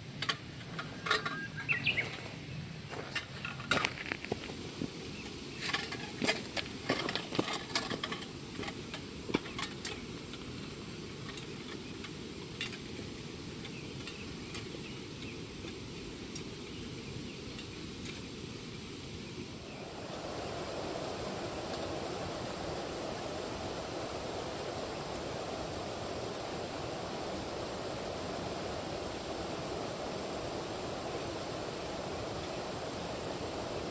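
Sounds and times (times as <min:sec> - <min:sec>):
steady low background noise: 0:00.0 - 0:33.9.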